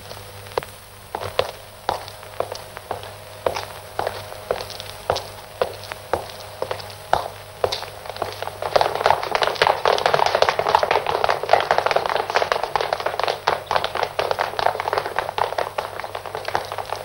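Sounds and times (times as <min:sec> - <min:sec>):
crowd running footsteps on pavement: 0:00.0 - 0:17.0.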